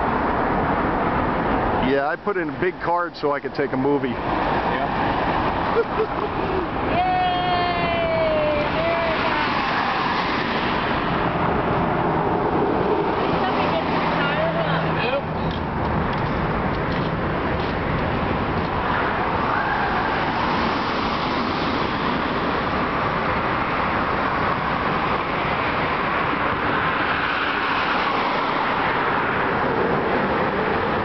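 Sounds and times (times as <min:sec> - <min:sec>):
freeway traffic passing: 0:00.0 - 0:31.0.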